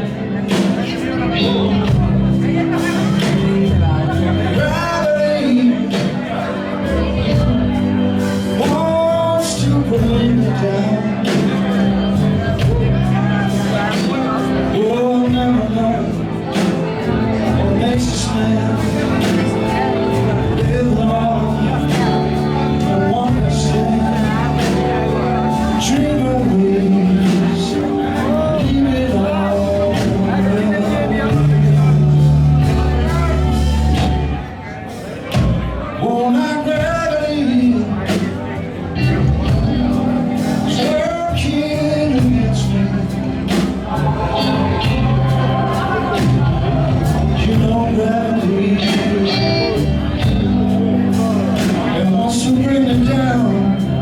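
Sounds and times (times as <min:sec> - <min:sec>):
person singing: 0:00.0 - 0:34.8, 0:35.8 - 0:54.0
blues-rock band playing live: 0:00.0 - 0:54.0
drums: 0:00.0 - 0:54.0.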